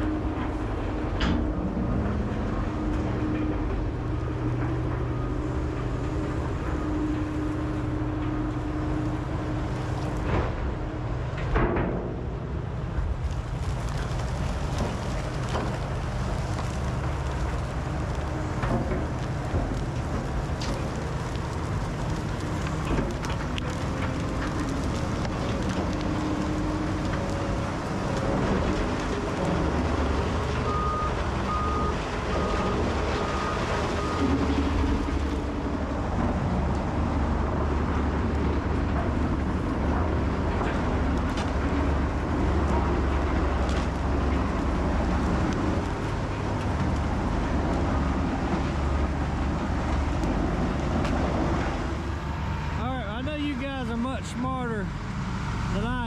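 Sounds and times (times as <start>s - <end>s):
heavy equipment engine drone: 0.0s - 56.0s.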